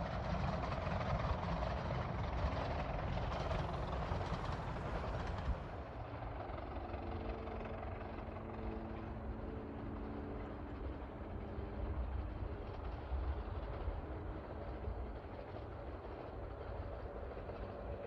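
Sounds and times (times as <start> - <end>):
miniature train rumble: 0.0 - 6.5, 7.8 - 18.0.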